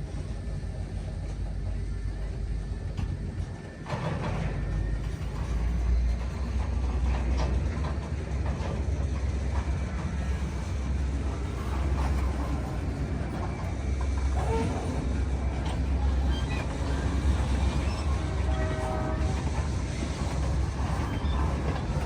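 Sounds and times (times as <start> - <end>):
freight train rumble: 0.0 - 22.0
wheels clacking over rails: 3.0 - 22.0.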